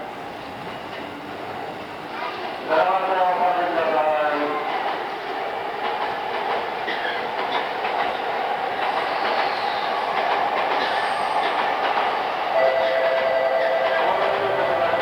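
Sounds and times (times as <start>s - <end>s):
train interior rushing noise: 0.0s - 15.0s.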